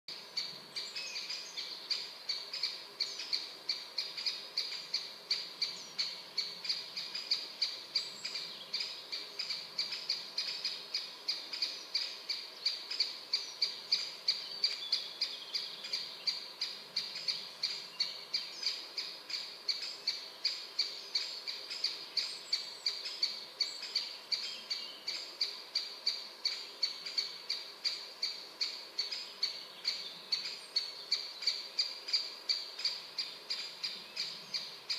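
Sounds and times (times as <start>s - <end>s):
other birds calling faintly: 0.1s - 34.9s.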